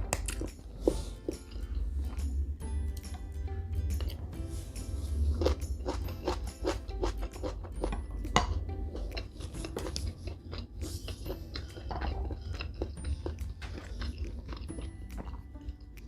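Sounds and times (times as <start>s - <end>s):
chewing and crunching food: 0.0s - 3.2s, 3.8s - 16.0s.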